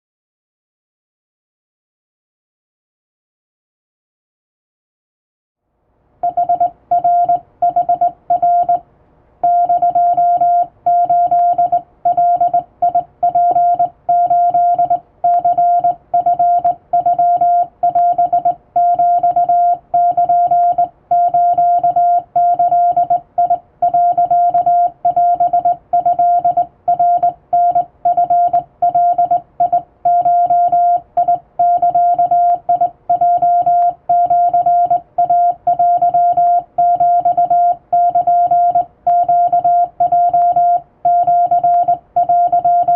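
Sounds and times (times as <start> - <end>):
morse code beeps: 6.2 - 8.8, 9.4 - 42.9.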